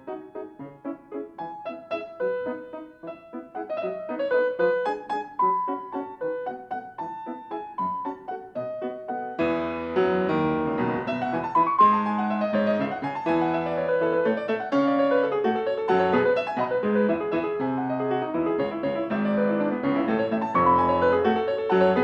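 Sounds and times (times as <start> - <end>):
solo piano classical music: 0.0 - 22.0.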